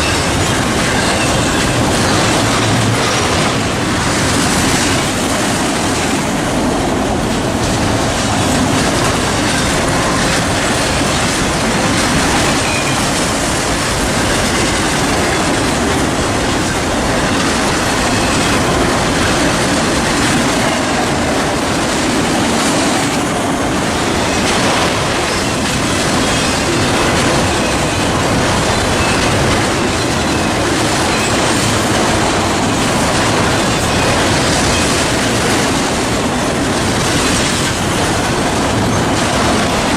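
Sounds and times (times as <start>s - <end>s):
train wheels rolling on track: 0.0s - 39.9s.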